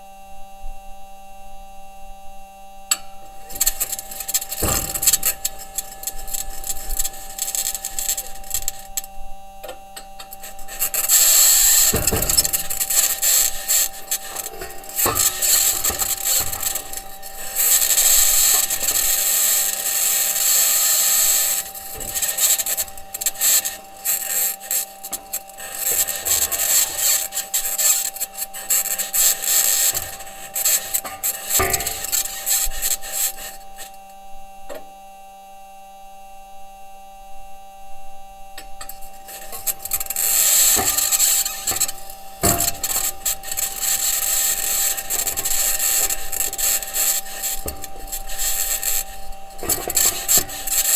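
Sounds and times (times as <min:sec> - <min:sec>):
steady hum: 0:00.0 - 0:50.9
wheels grinding over ground: 0:03.0 - 0:34.0, 0:38.8 - 0:50.9.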